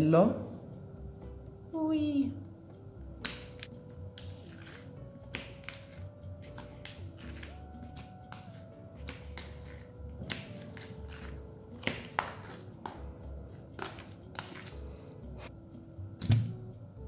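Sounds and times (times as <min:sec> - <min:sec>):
light background music: 0:00.0 - 0:17.0.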